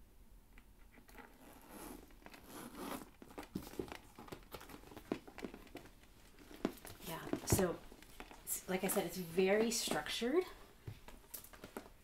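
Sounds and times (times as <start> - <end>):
leather bag rustling and crinkling: 1.1 - 12.0.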